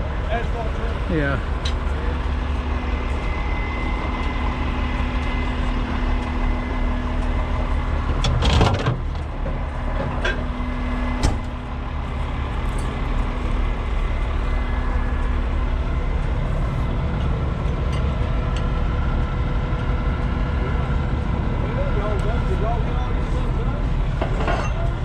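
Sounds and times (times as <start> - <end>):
steady hum: 0.0 - 25.0
truck engine running: 0.0 - 25.0.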